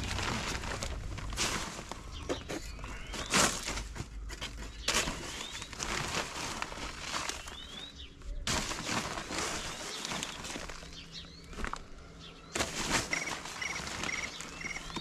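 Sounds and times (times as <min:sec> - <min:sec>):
paper sack rustling: 0:00.0 - 0:15.0
small birds chirping: 0:00.0 - 0:15.0.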